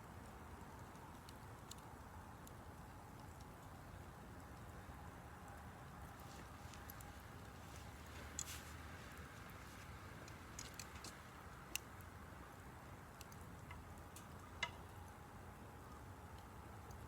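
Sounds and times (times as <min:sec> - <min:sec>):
wood campfire crackling: 0:00.0 - 0:17.0.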